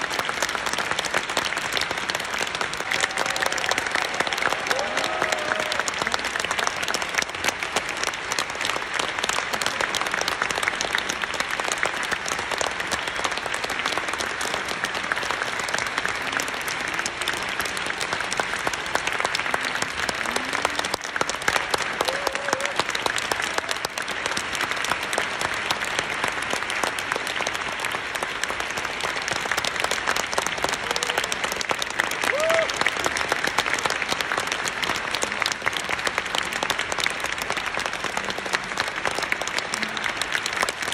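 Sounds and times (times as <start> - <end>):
audience applauding: 0.0 - 40.9.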